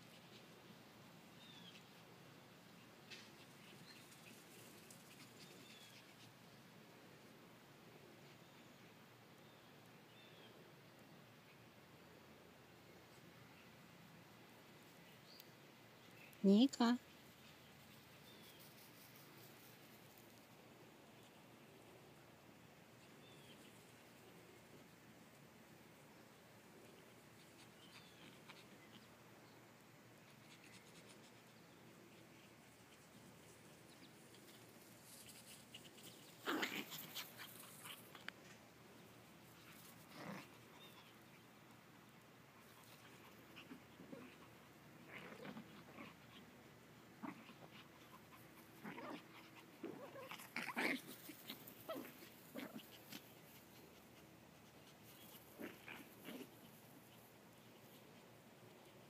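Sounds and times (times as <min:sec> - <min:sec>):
small dogs making faint sounds: 0:00.0 - 0:59.0.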